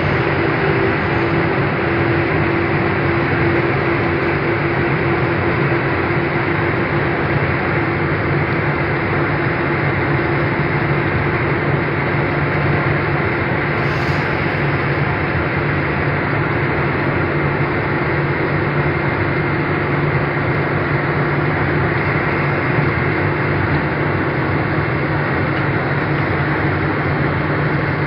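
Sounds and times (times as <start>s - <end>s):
constant low hum: 0.0s - 28.0s
truck engine and tyre noise: 0.0s - 28.0s.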